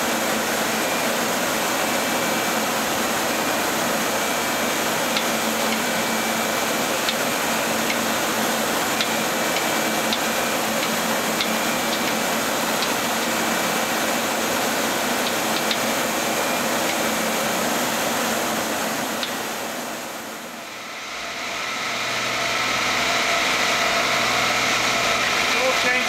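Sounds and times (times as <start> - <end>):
faint high whine: 0.0 - 26.0
lathe machine hum and whir: 0.0 - 26.0.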